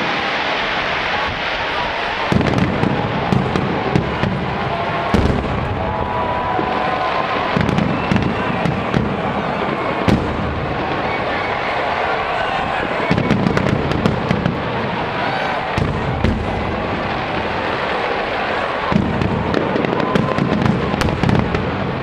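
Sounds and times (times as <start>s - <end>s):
fireworks bangs and crackling: 0.0s - 22.0s
heavy firework booms: 0.0s - 22.0s.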